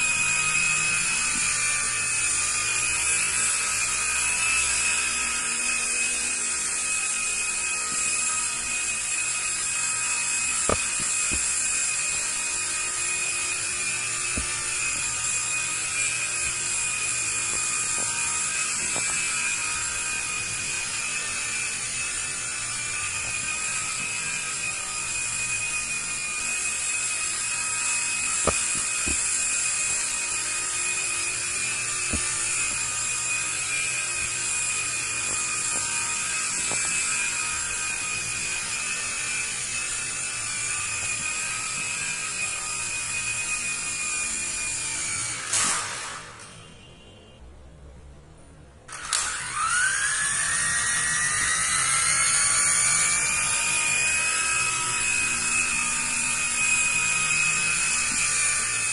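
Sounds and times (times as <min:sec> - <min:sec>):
toy helicopter rotor whine: 0:00.0 - 0:46.6, 0:48.9 - 0:58.9.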